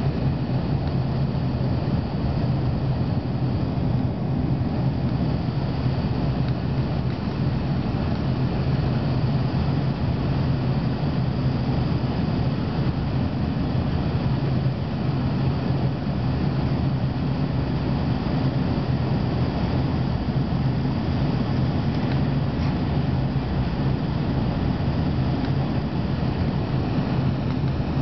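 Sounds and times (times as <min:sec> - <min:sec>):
aircraft cabin engine drone: 0:00.0 - 0:28.0.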